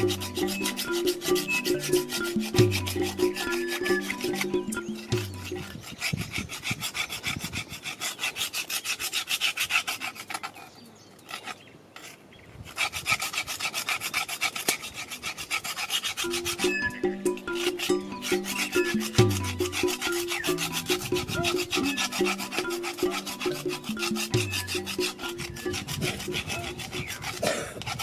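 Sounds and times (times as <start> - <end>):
wooden stick scraping: 0.0 - 28.0.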